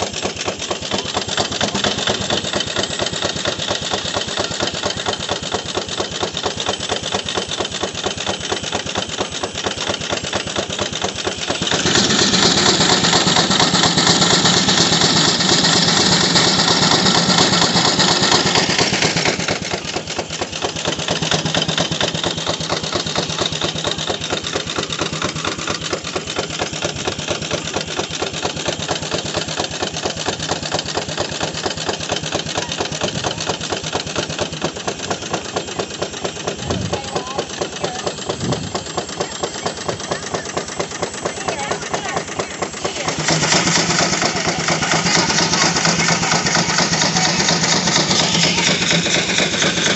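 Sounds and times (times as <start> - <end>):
circular saw cutting log: 0.0 - 49.9
steam engine exhaust beating: 0.0 - 49.9.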